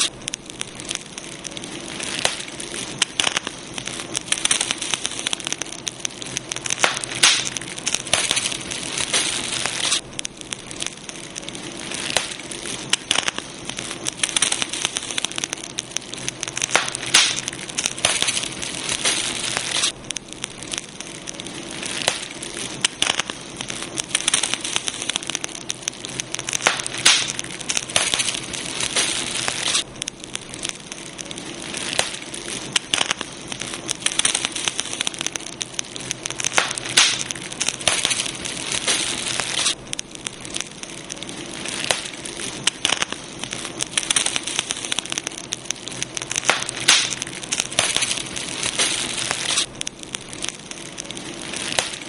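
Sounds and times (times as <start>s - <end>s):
low hiss of flame: 0.0s - 52.0s
wood crackling and popping: 0.0s - 52.0s.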